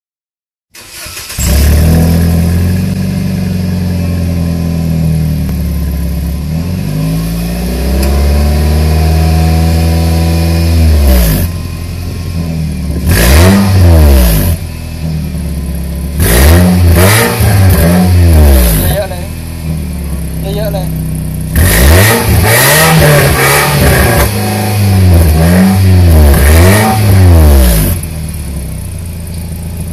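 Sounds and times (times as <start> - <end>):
car engine revving: 0.8 - 29.9.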